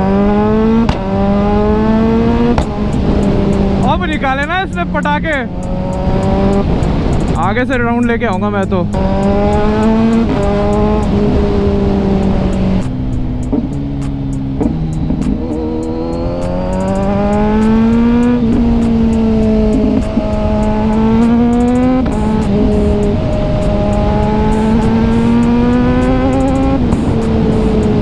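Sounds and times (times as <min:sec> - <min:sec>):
motorcycle engine accelerating: 0:00.0 - 0:28.0
wind rush: 0:01.2 - 0:28.0.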